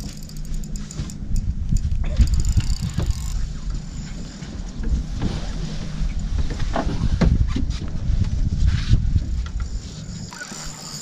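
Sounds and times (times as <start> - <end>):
wind rumble: 0.0 - 10.3.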